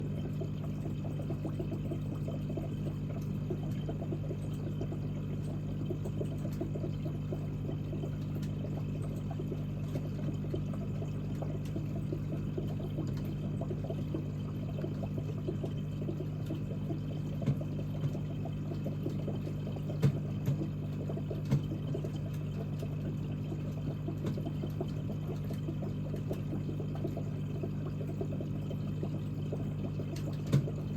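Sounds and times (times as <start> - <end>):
aquarium water bubbling: 0.0 - 30.9
tank pump hum: 0.0 - 30.9.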